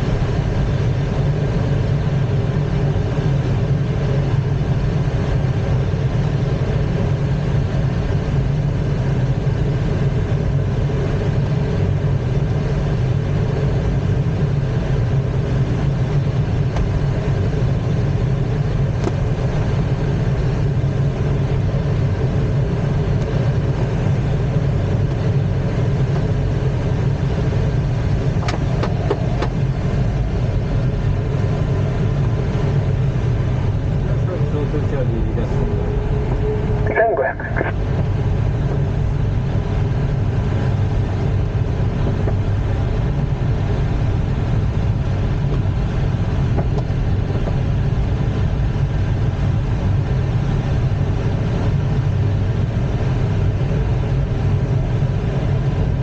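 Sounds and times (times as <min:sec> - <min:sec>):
air rushing in glider cockpit: 0:00.0 - 0:56.0
tow plane engine droning: 0:00.0 - 0:56.0.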